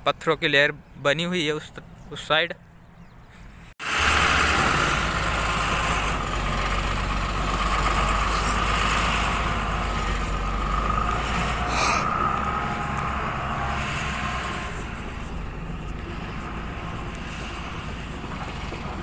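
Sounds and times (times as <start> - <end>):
vehicle engine humming and whining: 2.8 - 19.0.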